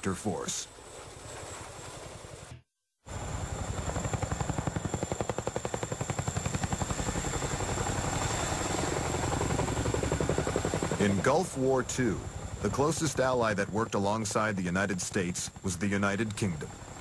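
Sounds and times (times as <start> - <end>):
helicopter rotor thumping: 3.2 - 17.0.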